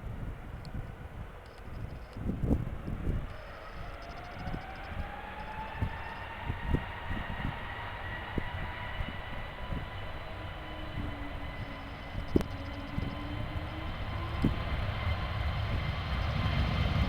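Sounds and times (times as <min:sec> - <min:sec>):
jet engines whining: 0:01.4 - 0:17.0.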